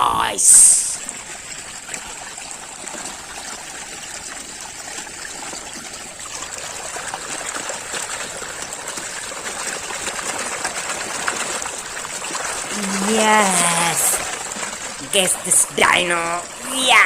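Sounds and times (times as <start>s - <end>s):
running water splashing: 0.0s - 17.0s.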